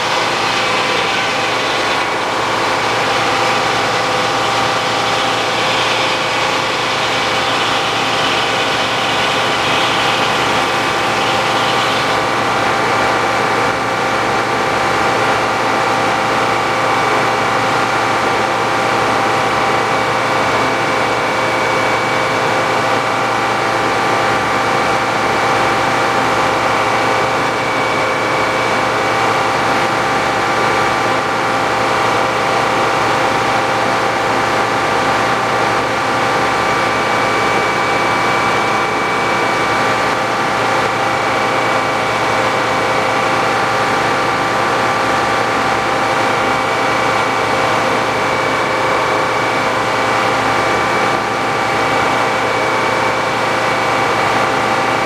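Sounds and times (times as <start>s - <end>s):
circular saw running with whine: 0.0s - 55.0s.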